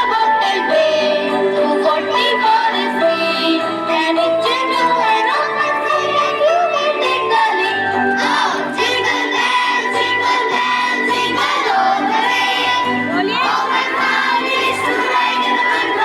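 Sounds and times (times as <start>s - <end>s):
voices singing together: 0.0s - 16.0s.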